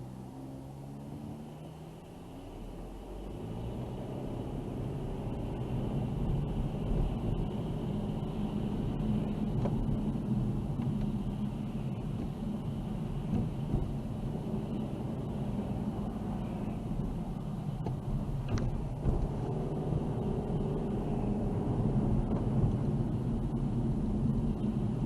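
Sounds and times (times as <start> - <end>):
car engine hum: 0.0 - 25.0
road noise: 0.0 - 25.0.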